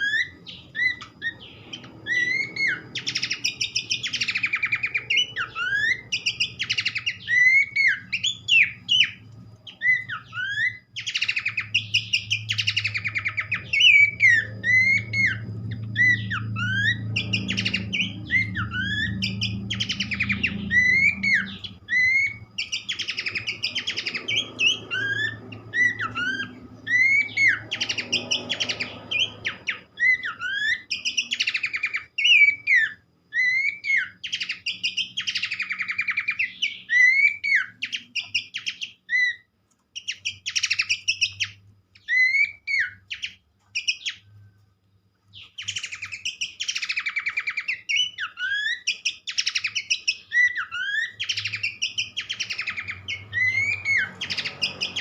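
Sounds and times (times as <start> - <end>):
bird chattering: 0.0 - 44.3, 45.4 - 55.0
bird whistled song: 0.0 - 55.0
faint low hum: 0.0 - 55.0.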